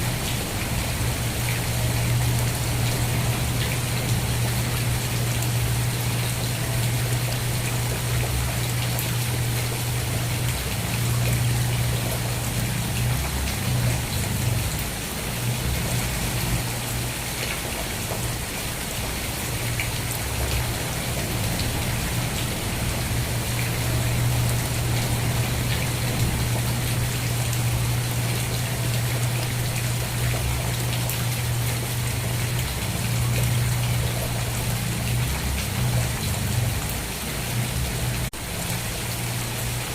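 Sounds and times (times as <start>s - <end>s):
constant low hum: 0.0s - 18.4s, 19.2s - 39.8s
steady rain: 0.0s - 39.9s.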